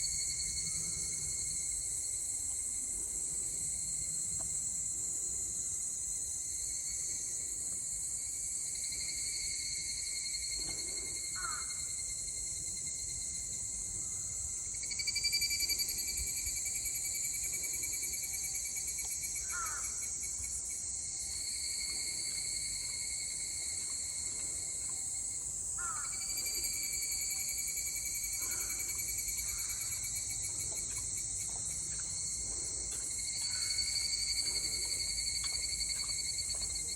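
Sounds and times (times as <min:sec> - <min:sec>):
cicadas singing in chorus: 0:00.0 - 0:36.9.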